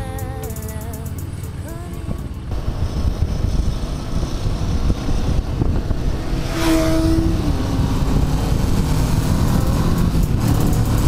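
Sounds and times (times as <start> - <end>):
road rumble: 0.0 - 11.0
vehicle passing: 0.0 - 11.0
wind buffeting: 0.2 - 11.0.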